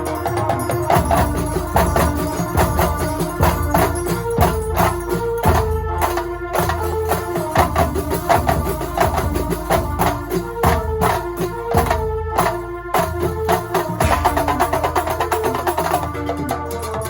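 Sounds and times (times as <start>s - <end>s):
frame-drum and percussion rhythm: 0.0s - 17.0s
held melodic tones: 0.0s - 17.0s
deep drum strokes: 0.9s - 16.1s.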